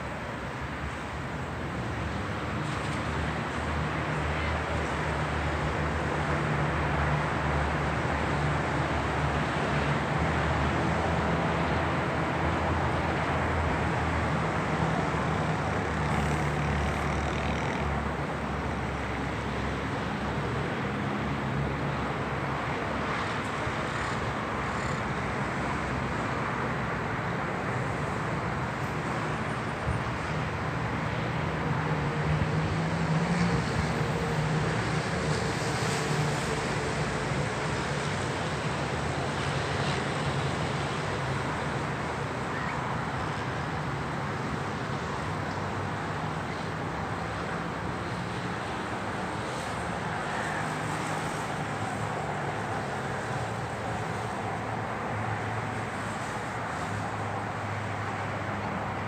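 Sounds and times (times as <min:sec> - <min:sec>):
cars and tyres passing: 0:00.0 - 0:59.0.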